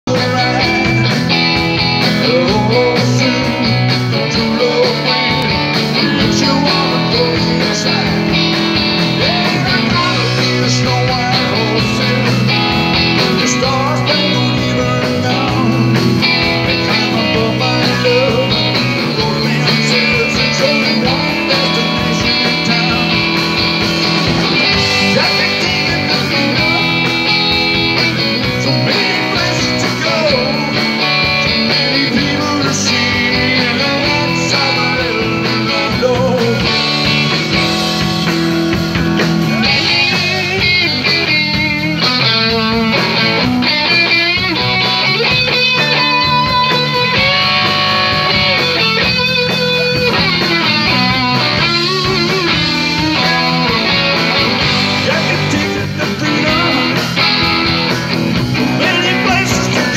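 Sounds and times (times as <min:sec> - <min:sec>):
electric guitar lines: 0:00.0 - 0:59.9
live rock band playing: 0:00.0 - 0:59.9.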